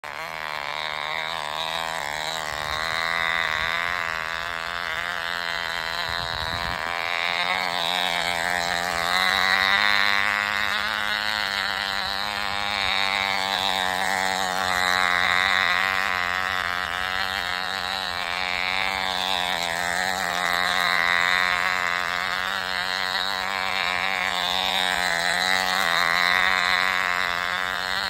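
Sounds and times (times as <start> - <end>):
model engine high buzzing whine: 0.0 - 28.0.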